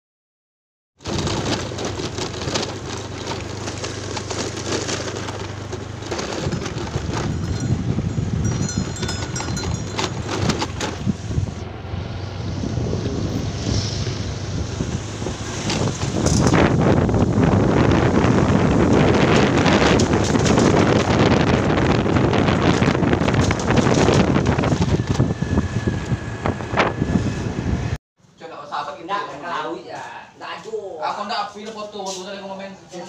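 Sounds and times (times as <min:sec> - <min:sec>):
scooter engine running: 0:01.0 - 0:27.8
wind buffeting microphone: 0:01.0 - 0:28.0.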